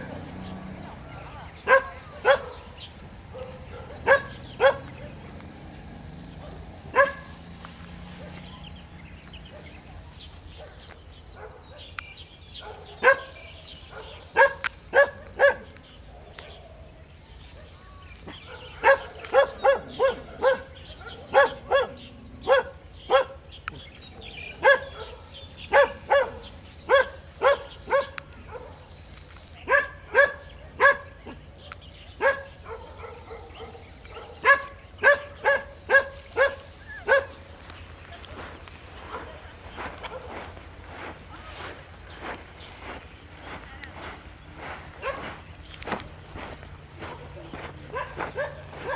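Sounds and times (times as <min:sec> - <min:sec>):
dog barking: 0:01.6 - 0:05.4, 0:06.2 - 0:08.6, 0:09.4 - 0:12.0, 0:12.6 - 0:16.5, 0:17.6 - 0:28.8, 0:29.6 - 0:37.5, 0:38.4 - 0:48.9.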